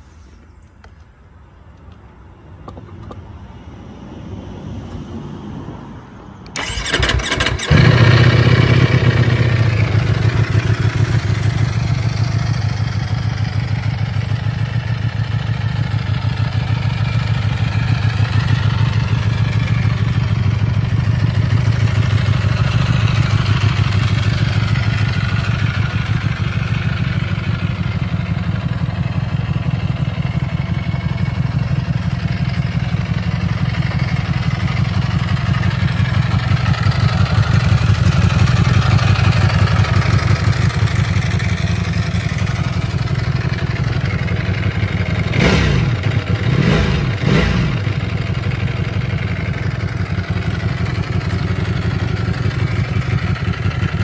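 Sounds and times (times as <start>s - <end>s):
motorcycle engine idling: 6.5s - 54.0s.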